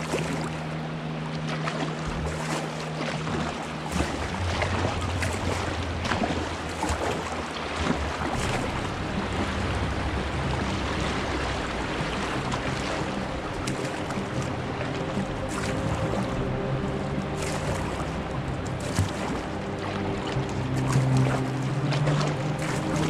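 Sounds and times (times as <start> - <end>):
rushing river water: 0.0 - 23.0
short water splashes: 0.0 - 23.0.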